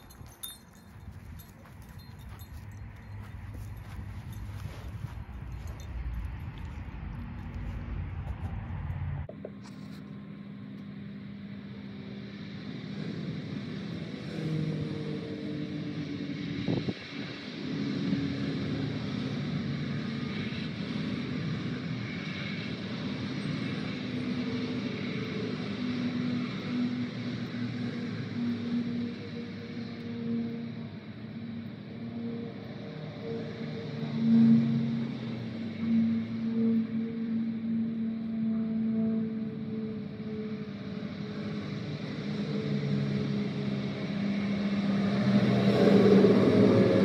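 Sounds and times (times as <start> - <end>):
vehicle engine hum: 0.0 - 47.0.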